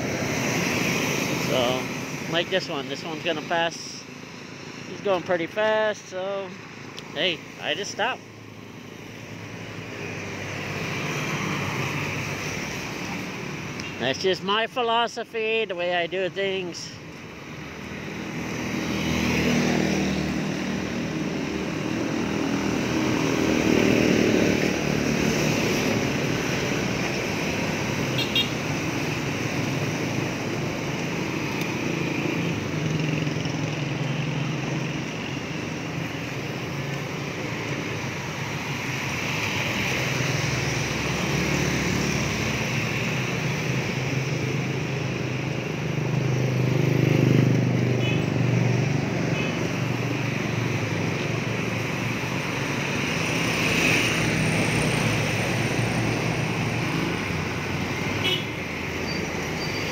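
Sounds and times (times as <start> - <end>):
motorcycles passing: 0.0 - 59.9
vehicles passing on wet road: 0.0 - 59.9.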